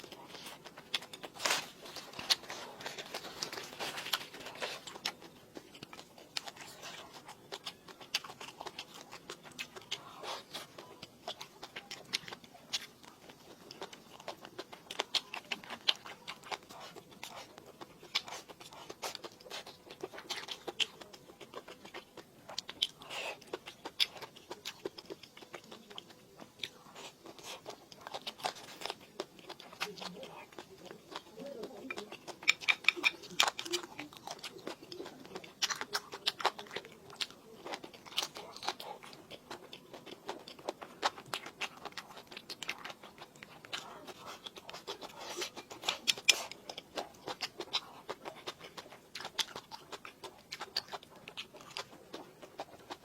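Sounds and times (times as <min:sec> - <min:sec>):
close-up biting and chewing: 0:00.0 - 0:53.0.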